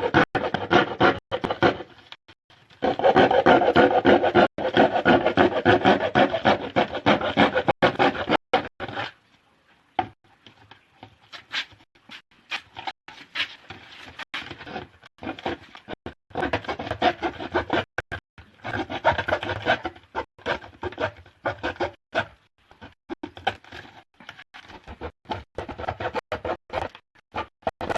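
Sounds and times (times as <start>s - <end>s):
rasping strokes cutting plastic: 0.0s - 9.2s, 11.4s - 27.9s.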